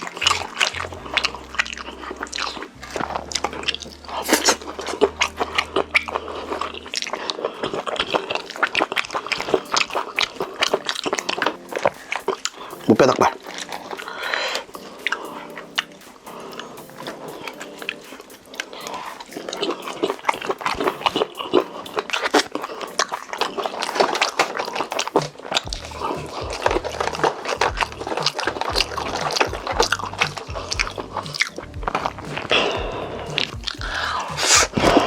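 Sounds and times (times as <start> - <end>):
dull chewing thuds: 0.0 - 35.0
wet chewing clicks and smacks: 0.0 - 35.0.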